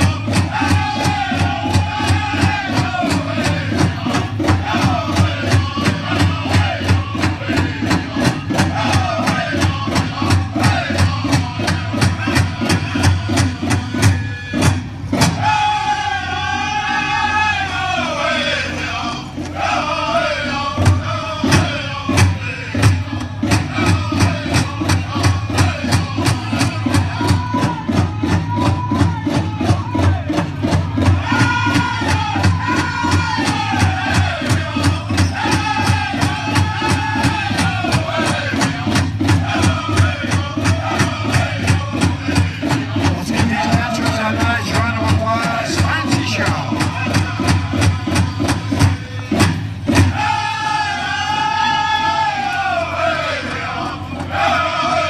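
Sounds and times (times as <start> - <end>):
fast steady drum beat: 0.0 - 15.5, 20.8 - 50.6
group singing: 0.0 - 55.0.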